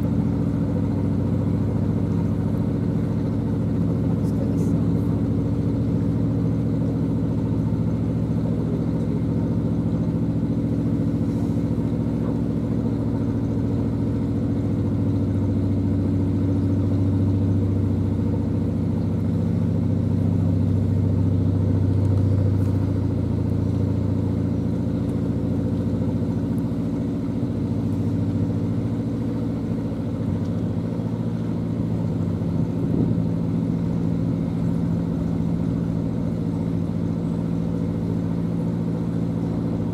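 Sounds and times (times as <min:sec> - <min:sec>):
boat diesel engine running: 0:00.0 - 0:39.9.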